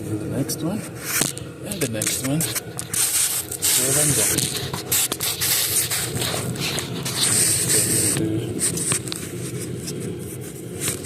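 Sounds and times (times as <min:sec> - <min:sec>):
scraping and rustling handling noise: 0:00.6 - 0:11.0.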